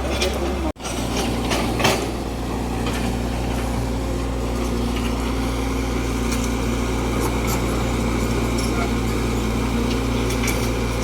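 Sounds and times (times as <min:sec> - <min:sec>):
heavy vehicle engine humming: 0:00.0 - 0:11.0.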